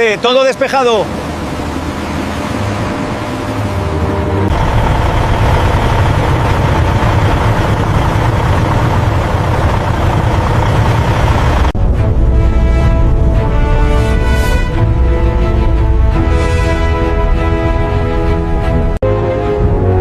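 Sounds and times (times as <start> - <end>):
heavy machinery engine rumbling: 1.1 - 19.0.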